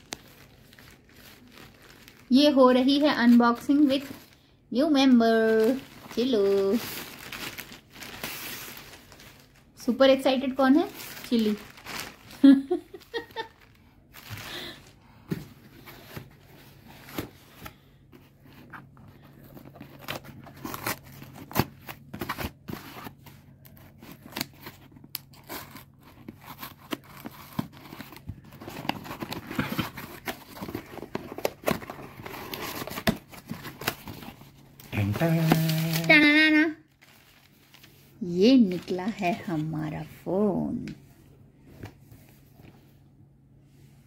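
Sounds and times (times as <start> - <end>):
plastic mailer crinkling: 0.0 - 15.0, 15.8 - 39.9.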